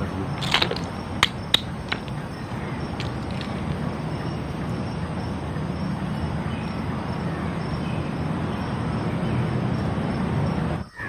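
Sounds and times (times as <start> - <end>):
low background rumble: 0.0 - 10.9.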